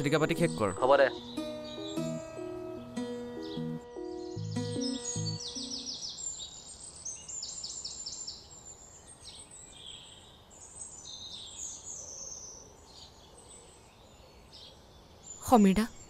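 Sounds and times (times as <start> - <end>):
birds singing and chirping: 0.0 - 16.0
faint outdoor background noise: 0.0 - 16.0.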